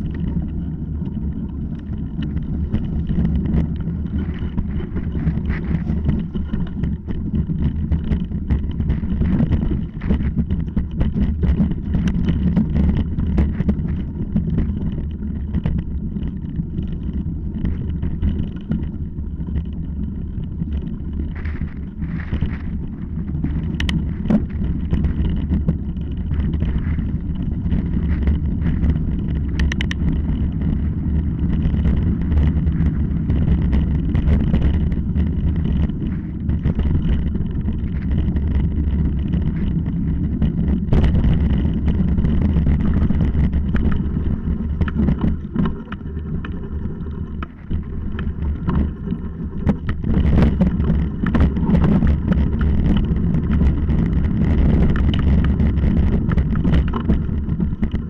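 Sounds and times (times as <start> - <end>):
bike rumbling over gravel: 0.0 - 58.0
wind on camera microphone: 0.0 - 58.0.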